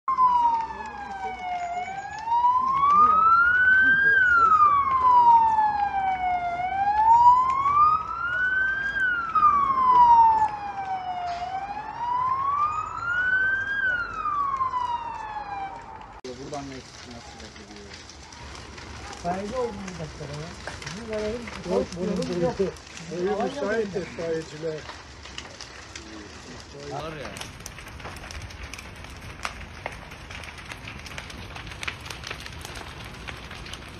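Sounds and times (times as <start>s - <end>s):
fire engine siren wailing: 0.0s - 33.9s.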